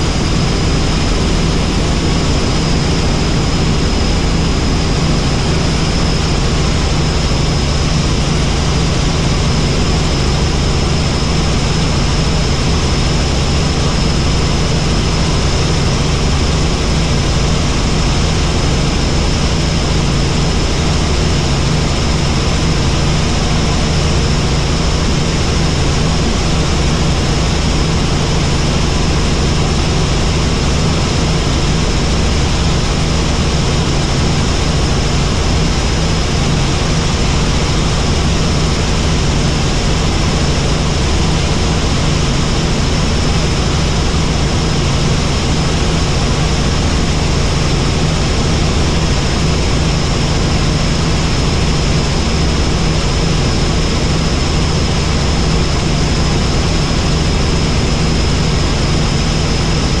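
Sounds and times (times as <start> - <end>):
helicopter drone: 0.0 - 60.0.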